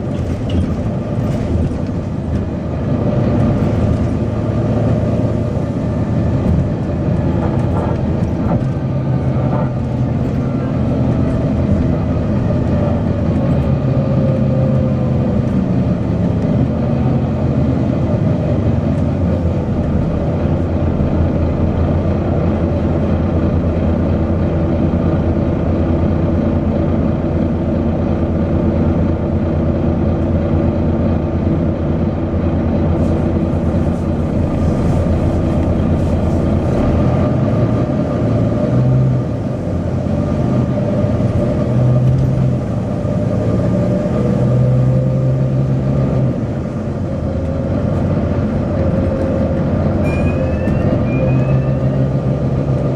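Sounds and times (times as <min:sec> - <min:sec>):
diesel bus engine running: 0:00.0 - 0:52.9.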